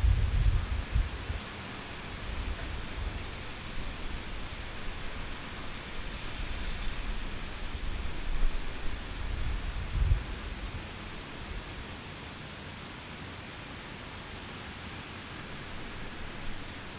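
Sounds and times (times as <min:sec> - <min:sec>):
heavy rain hissing: 0:00.0 - 0:16.9.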